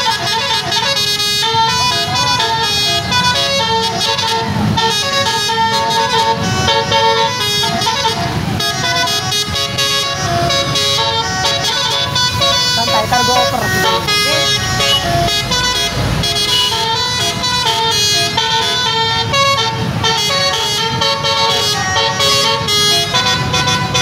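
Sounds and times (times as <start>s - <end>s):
bus horn playing a tune: 0.0s - 24.0s
engines rumbling: 0.0s - 24.0s.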